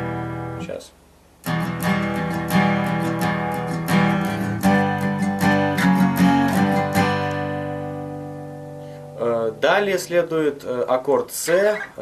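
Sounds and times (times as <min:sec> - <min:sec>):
acoustic guitar strumming: 0:00.0 - 0:00.8, 0:01.4 - 0:12.0.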